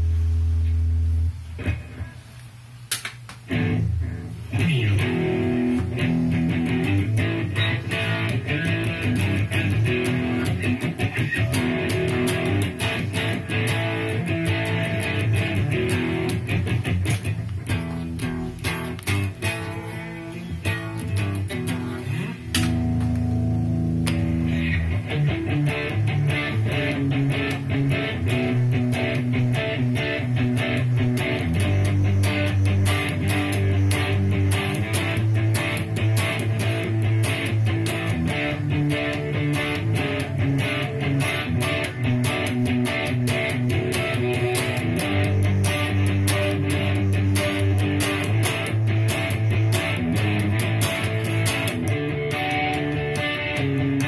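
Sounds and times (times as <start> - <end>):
electric guitar riff: 0.0 - 2.3, 3.5 - 54.0.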